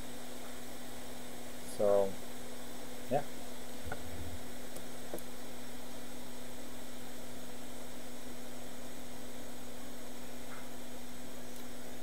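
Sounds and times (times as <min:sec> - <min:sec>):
constant hiss: 0:00.0 - 0:12.0
electrical mains hum: 0:00.0 - 0:12.0.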